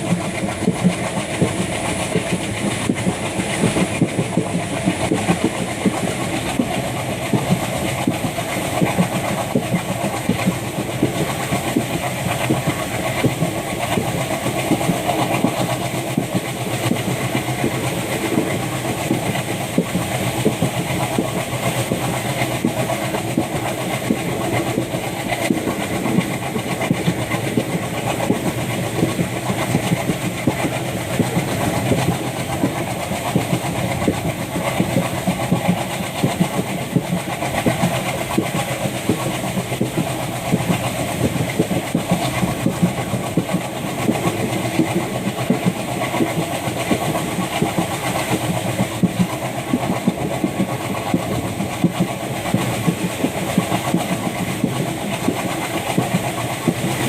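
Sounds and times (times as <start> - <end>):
diesel locomotive engine chugging: 0.0 - 57.0
train wheels clattering over rails: 0.0 - 57.0.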